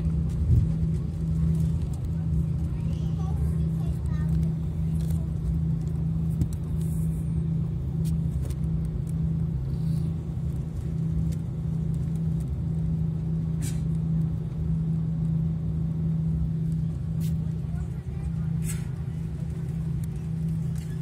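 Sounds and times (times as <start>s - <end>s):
jet engines droning: 0.0s - 21.0s.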